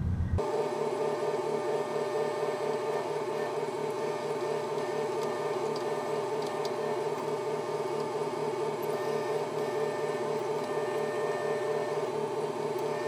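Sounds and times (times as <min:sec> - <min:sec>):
drill press boring steel: 0:00.6 - 0:13.0.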